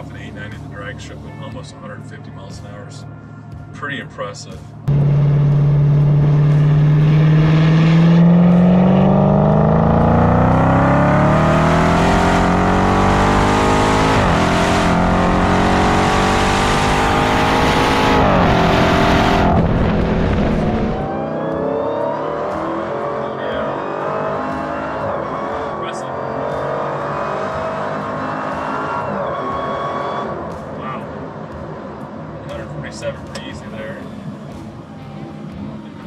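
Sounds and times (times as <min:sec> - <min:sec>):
car engine at full throttle: 0:04.8 - 0:36.0.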